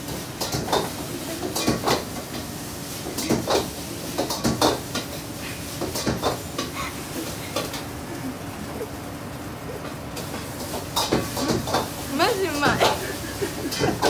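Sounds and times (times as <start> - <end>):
kitchen hum: 0.0 - 14.0.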